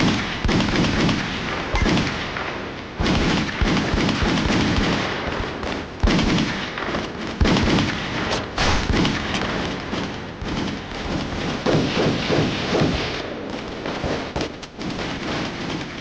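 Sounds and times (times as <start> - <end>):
explosions: 0.0 - 16.0
gunfire: 0.0 - 16.0.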